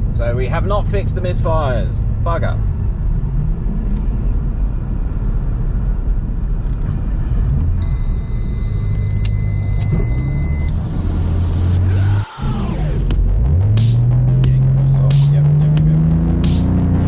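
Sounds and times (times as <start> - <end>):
car engine droning: 0.0 - 17.0
road noise: 0.0 - 17.0.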